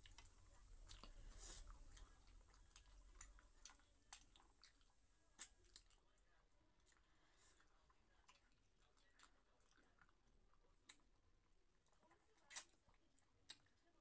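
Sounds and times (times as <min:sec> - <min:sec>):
people chewing: 0:00.0 - 0:14.0.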